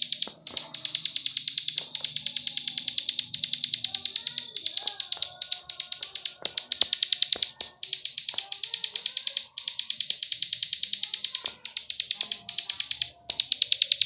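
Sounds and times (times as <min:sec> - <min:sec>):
bird rapid dry clicking call: 0:00.0 - 0:14.0.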